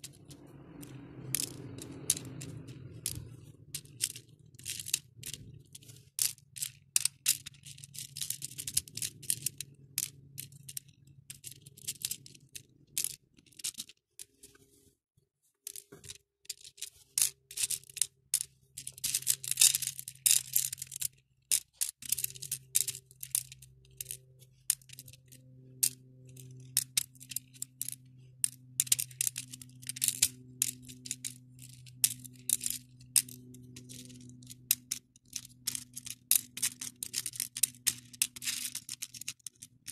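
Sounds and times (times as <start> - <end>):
plastic beads clicking and rattling: 0.0 - 14.5, 15.6 - 39.9.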